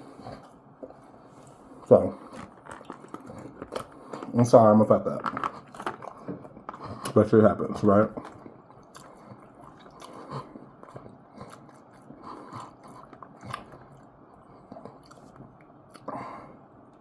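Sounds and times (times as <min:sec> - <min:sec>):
person chewing food: 0:00.0 - 0:04.4, 0:05.2 - 0:17.0.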